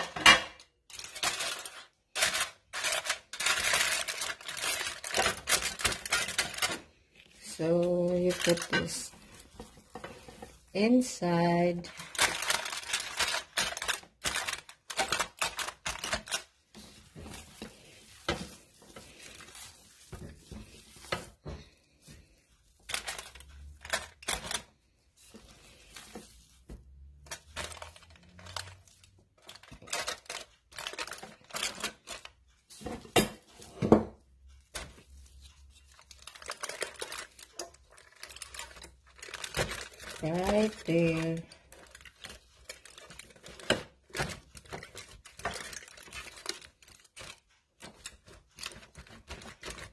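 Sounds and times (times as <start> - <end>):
foil and gloves crinkling: 0.8 - 33.7, 34.6 - 49.9.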